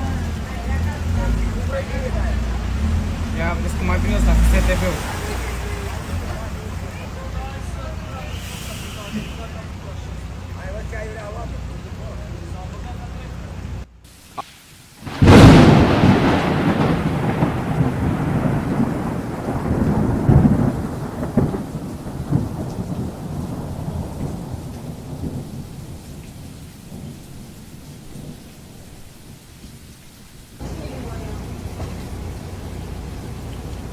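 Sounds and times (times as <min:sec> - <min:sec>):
thunderclap and rolling rumble: 0:00.0 - 0:08.8, 0:15.0 - 0:33.9
rain: 0:00.0 - 0:33.9.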